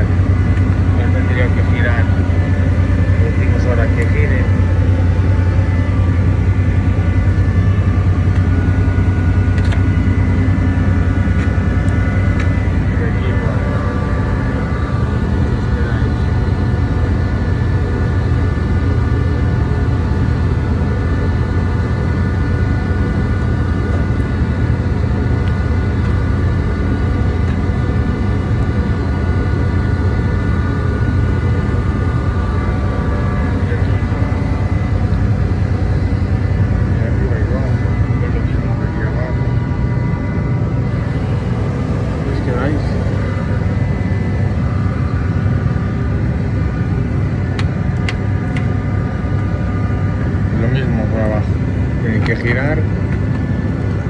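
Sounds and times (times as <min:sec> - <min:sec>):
high even machinery whine: 0:00.0 - 0:54.0
machinery deep rumble: 0:00.0 - 0:54.0.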